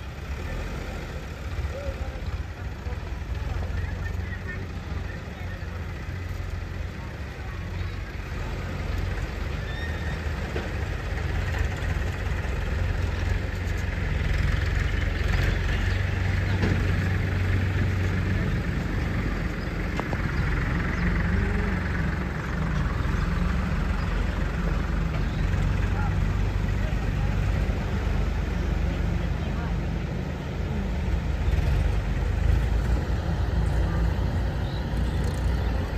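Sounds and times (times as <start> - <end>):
diesel engines running: 0.0 - 35.9.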